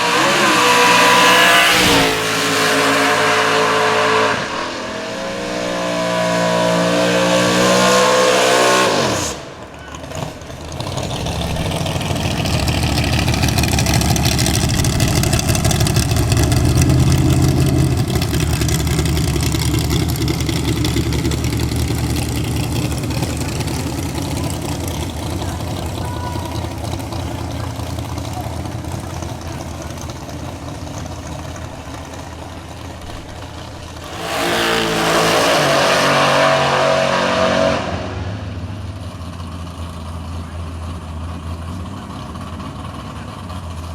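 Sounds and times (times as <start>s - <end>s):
drag car engines running: 0.0s - 43.9s
engine revving: 0.0s - 43.9s.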